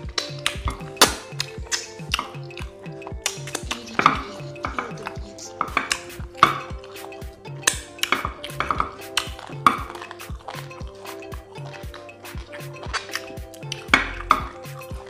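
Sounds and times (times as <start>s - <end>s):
background music with steady beat: 0.0s - 15.0s
chewing: 0.0s - 15.0s.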